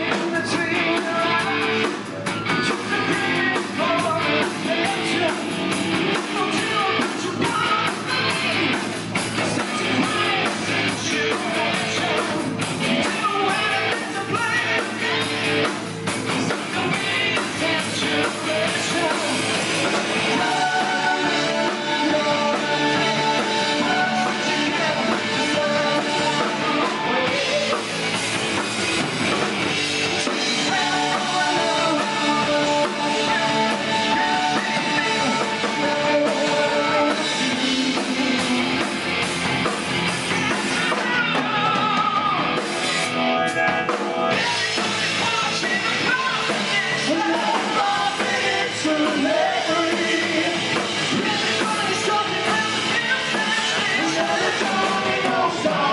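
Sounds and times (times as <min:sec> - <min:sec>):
person singing: 0:00.0 - 0:05.5, 0:06.1 - 0:08.9, 0:09.5 - 0:15.7, 0:16.4 - 0:28.2, 0:30.1 - 0:38.9, 0:40.3 - 0:42.6, 0:44.3 - 0:55.9
bass guitar: 0:00.0 - 0:55.9
drums: 0:00.0 - 0:55.9
electric guitar: 0:00.0 - 0:55.9.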